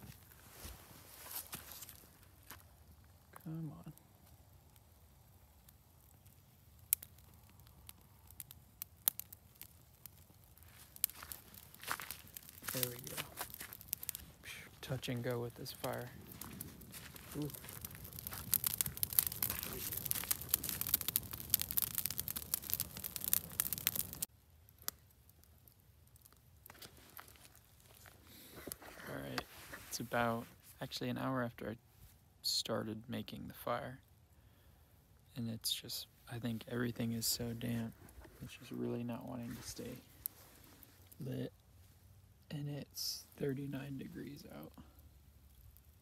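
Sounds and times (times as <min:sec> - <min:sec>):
campfire crackling and popping: 0:00.0 - 0:31.8, 0:33.5 - 0:46.0.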